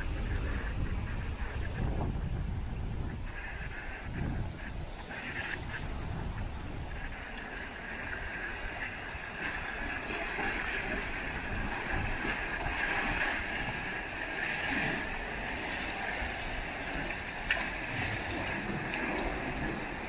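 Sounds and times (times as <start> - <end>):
waves on rocky shore: 0.0 - 20.0
wind: 0.0 - 20.0.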